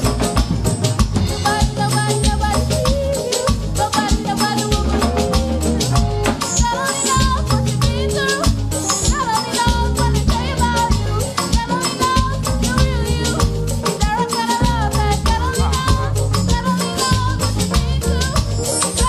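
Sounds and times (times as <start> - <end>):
shaker rattle percussion: 0.0 - 19.0
upbeat gospel dance music: 0.0 - 19.0.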